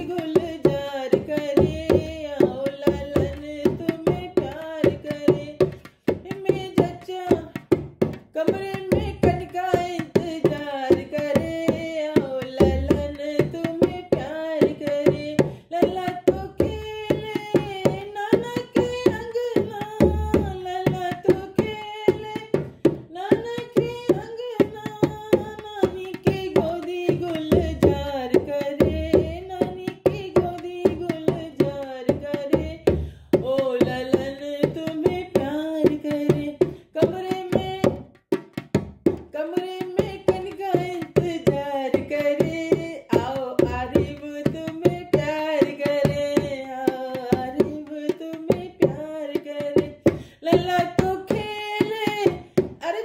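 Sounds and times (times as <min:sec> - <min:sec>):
woman singing folk song: 0:00.0 - 0:38.2, 0:39.2 - 0:53.0.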